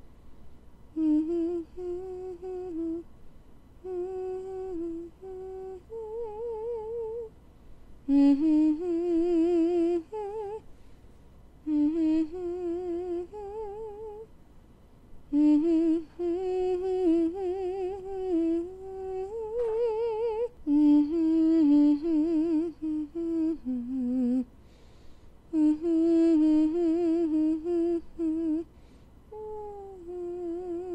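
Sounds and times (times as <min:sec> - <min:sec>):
person humming a slow melody: 0:00.9 - 0:03.1, 0:03.8 - 0:07.4, 0:08.1 - 0:10.7, 0:11.6 - 0:14.3, 0:15.3 - 0:24.5, 0:25.5 - 0:28.7, 0:29.3 - 0:30.9.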